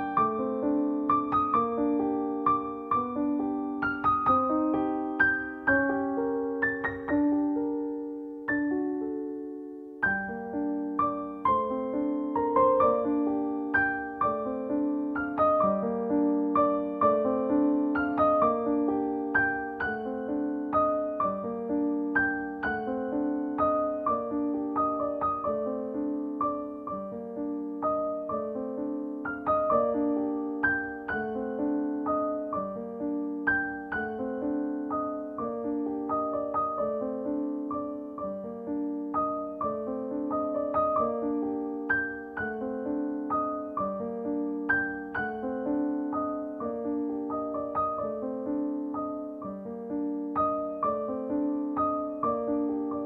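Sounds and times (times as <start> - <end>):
slow piano melody: 0.0 - 53.0.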